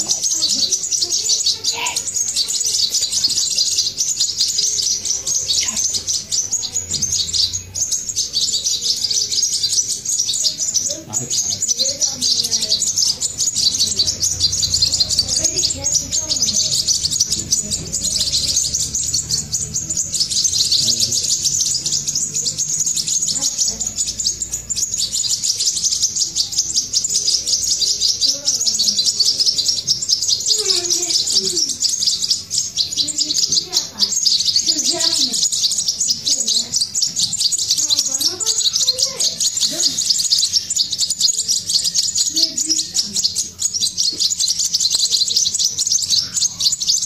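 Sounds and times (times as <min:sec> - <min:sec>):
nestling birds chirping: 0:00.0 - 0:47.0.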